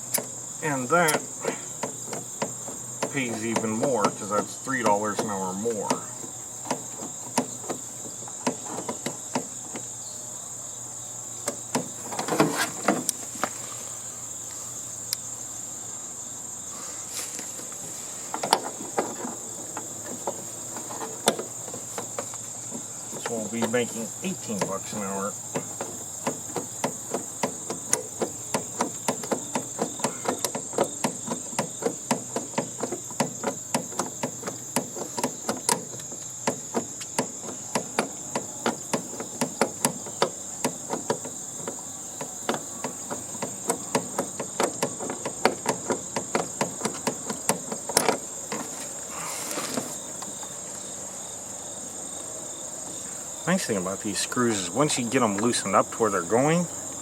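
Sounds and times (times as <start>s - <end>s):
high insect trill: 0.0s - 57.0s.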